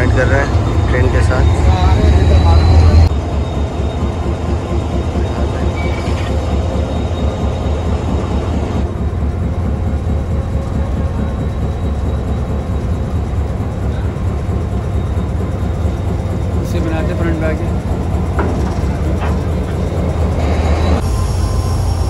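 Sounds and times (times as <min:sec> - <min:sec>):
diesel locomotive idling: 0:00.0 - 0:22.0.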